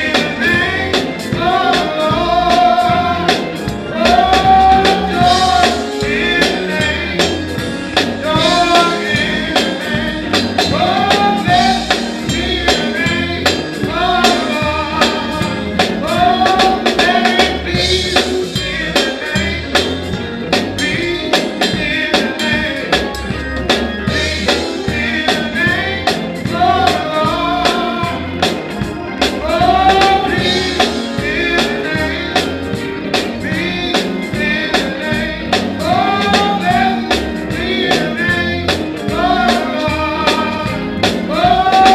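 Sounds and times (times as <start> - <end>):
drums: 0.0 - 41.9
gospel singing: 0.0 - 41.9.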